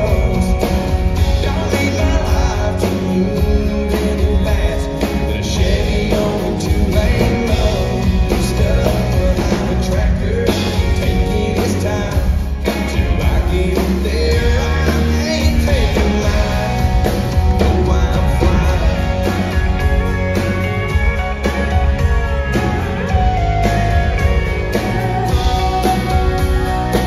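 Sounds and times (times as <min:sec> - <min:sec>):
man singing: 0:00.0 - 0:23.3
acoustic guitar strumming: 0:00.0 - 0:27.0
full band playing country music: 0:00.0 - 0:27.0.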